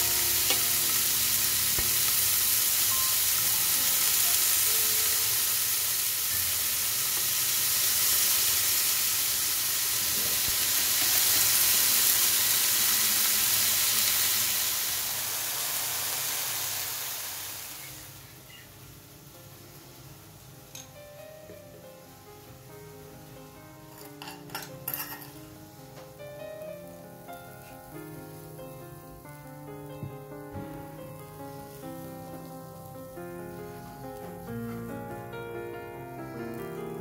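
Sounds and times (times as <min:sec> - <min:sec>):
chicken sizzling in a frying pan: 0:00.0 - 0:21.0, 0:22.0 - 0:34.8.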